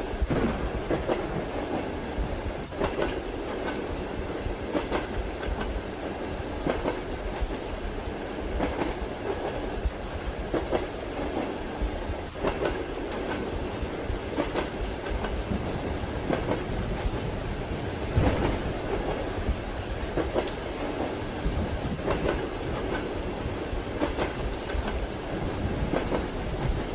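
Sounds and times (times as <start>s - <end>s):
train wheels clacking: 0.0s - 7.8s, 8.5s - 26.9s
rain hiss: 0.0s - 26.9s
train rolling rumble: 0.0s - 26.9s.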